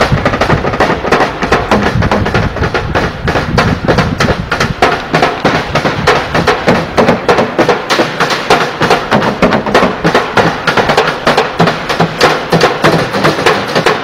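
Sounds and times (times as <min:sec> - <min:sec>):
drumming on buckets and pans: 0:00.0 - 0:14.0.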